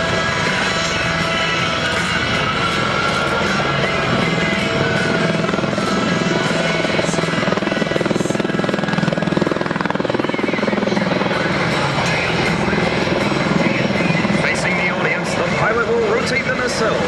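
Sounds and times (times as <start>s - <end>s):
high turbine whine: 0.0s - 17.0s.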